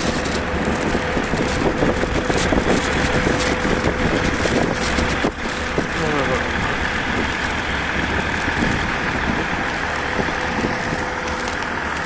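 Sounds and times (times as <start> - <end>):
freight train rumbling past: 0.0 - 12.0
steady whine: 0.0 - 12.0.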